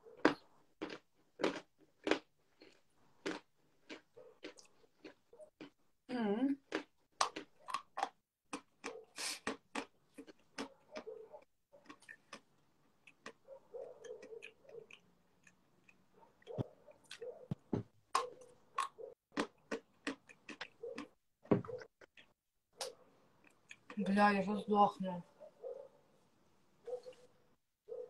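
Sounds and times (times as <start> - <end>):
chewing crunchy chalk: 0.0 - 5.8, 6.7 - 24.1.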